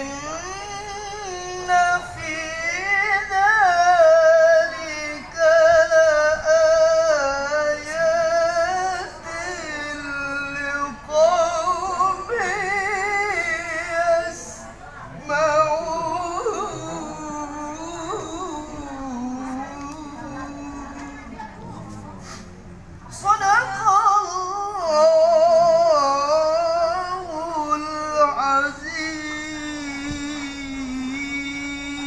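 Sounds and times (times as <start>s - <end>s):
person reciting melodically: 0.0s - 32.0s.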